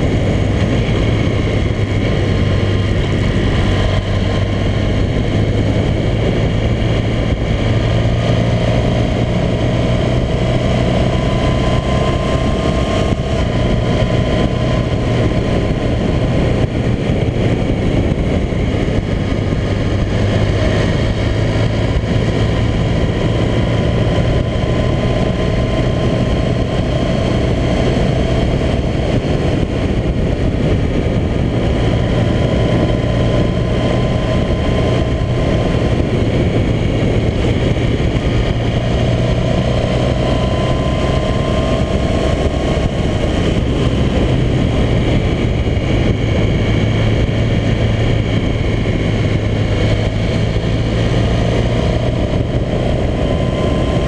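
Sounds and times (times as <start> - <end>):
motorcycle engine cruising: 0.0 - 54.0
wind on microphone: 0.0 - 54.0.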